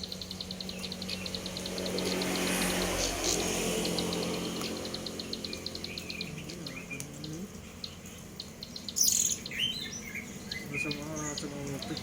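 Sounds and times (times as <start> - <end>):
songbird calling: 0.0 - 12.0.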